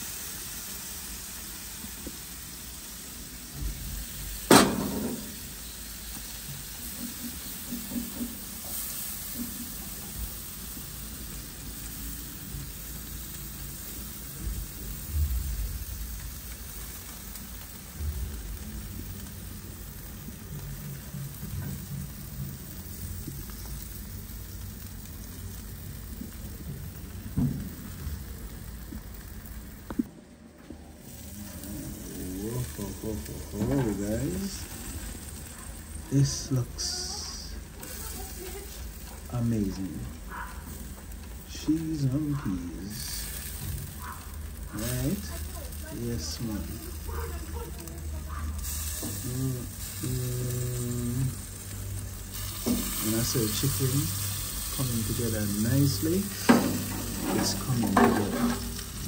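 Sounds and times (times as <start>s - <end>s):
food sizzling in a pot: 0.0s - 30.1s, 30.9s - 59.0s.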